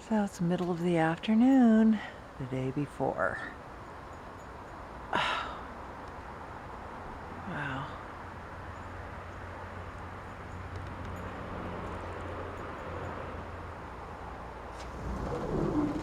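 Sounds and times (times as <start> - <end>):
outdoor background hum: 0.0 - 16.0.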